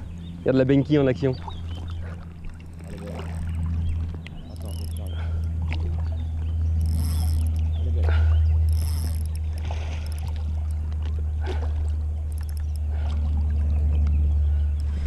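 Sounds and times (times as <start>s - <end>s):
low rumble: 0.0s - 15.0s
river water lapping: 0.0s - 15.0s.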